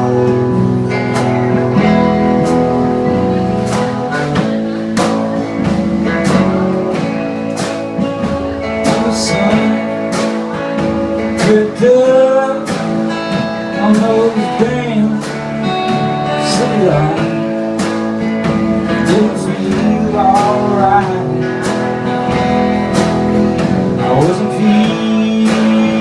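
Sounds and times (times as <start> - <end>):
steady drum beat: 0.0 - 26.0
strummed guitar: 0.0 - 26.0.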